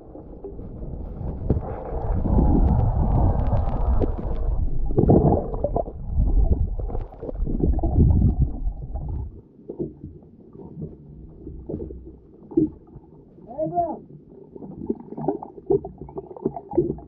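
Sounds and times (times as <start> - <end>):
muffled underwater rumbling: 0.0 - 17.0.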